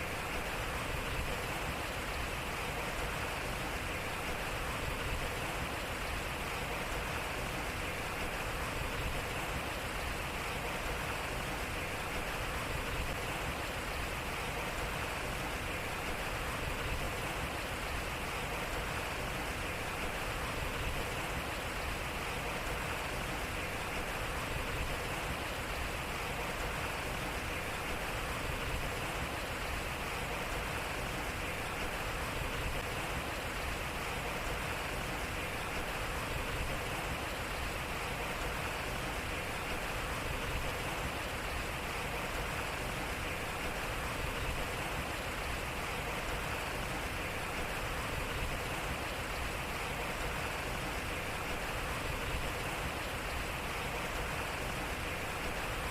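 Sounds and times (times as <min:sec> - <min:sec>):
water splashing at water wheel: 0:00.0 - 0:55.9.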